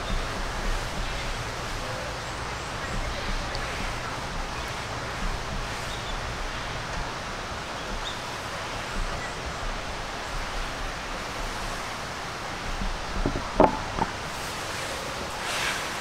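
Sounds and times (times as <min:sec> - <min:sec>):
rushing outdoor noise: 0:00.0 - 0:16.0.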